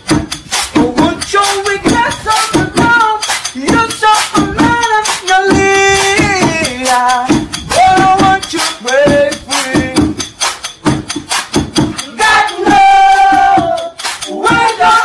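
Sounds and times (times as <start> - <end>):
steady percussive beat: 0.0 - 15.0
person singing: 0.8 - 10.2, 12.0 - 15.0.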